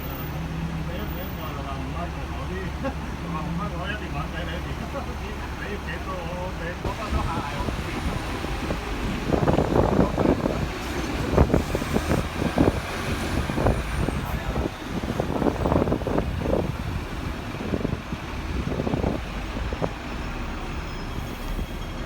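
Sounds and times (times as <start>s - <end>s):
road traffic: 0.0s - 22.0s
tram running noise: 0.0s - 22.0s.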